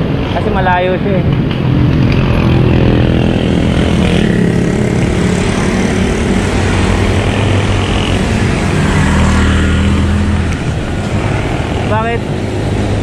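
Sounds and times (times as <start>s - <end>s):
road and wind noise: 0.0s - 13.0s
vehicle engines running: 0.0s - 13.0s.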